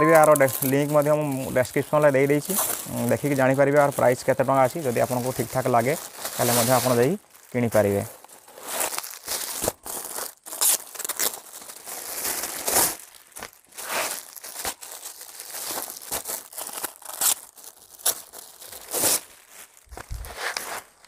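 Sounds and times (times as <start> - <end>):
plastic film crinkling: 0.0 - 21.0.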